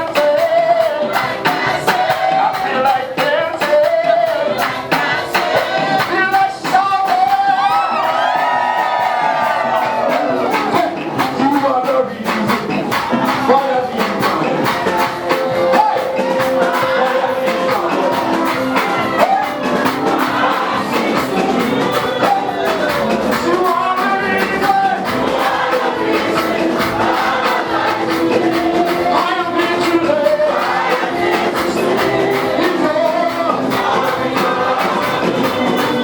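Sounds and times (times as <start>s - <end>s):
group singing gospel music: 0.0s - 36.0s
steady beat: 0.0s - 36.0s.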